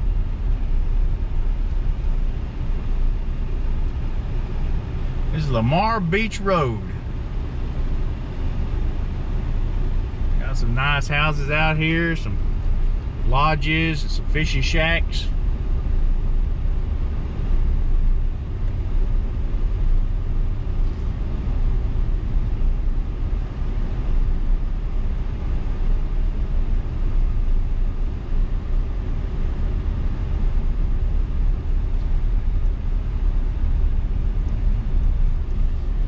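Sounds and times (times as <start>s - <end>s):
road and engine rumble in cabin: 0.0s - 36.0s.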